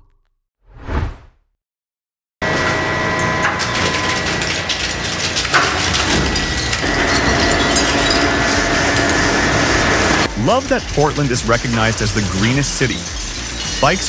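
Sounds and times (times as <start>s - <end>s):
industrial shredder grinding: 2.4s - 14.0s.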